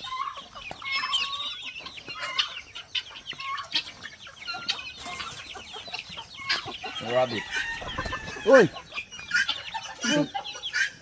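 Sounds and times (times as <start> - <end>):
poultry calling and clucking: 0.0 - 11.0.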